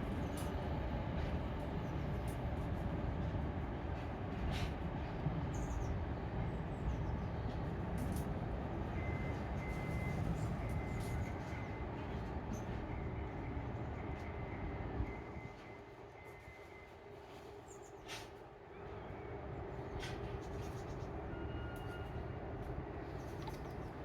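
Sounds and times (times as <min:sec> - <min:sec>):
train rumbling by: 0:00.0 - 0:24.0.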